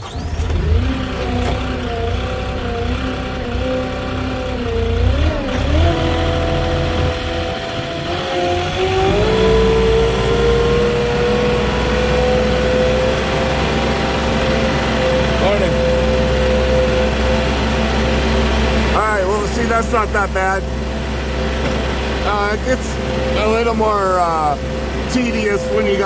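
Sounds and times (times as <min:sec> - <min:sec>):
forklift engine running under load: 0:00.0 - 0:26.0.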